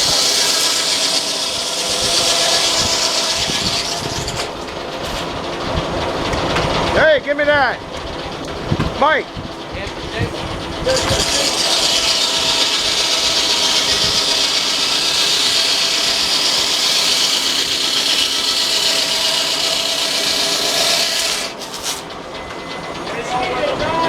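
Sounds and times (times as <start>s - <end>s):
circular saw blade cutting log: 0.0s - 7.2s, 8.3s - 22.9s.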